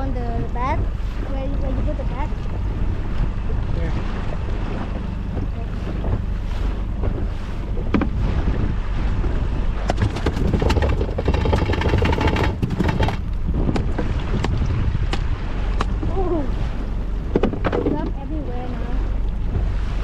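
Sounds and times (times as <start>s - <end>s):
water rumble: 0.0s - 20.0s
wind: 0.0s - 20.0s.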